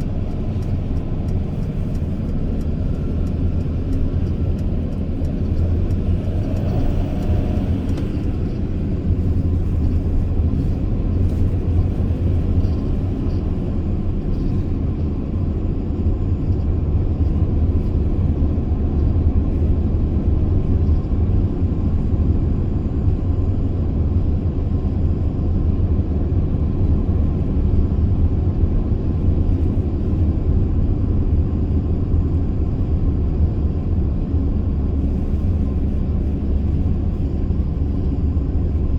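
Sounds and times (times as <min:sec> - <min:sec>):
road noise: 0:00.0 - 0:38.9
van engine rumble: 0:00.0 - 0:38.9.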